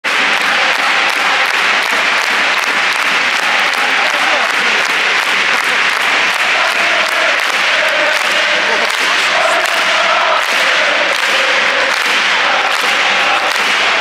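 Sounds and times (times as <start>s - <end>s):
crowd cheering: 0.0s - 14.0s
crowd clapping: 0.0s - 14.0s.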